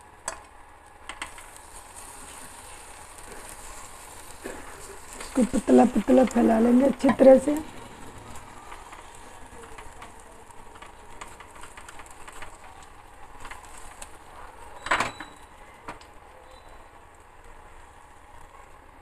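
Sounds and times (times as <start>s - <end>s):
batter sizzling in oil: 0.0s - 19.0s.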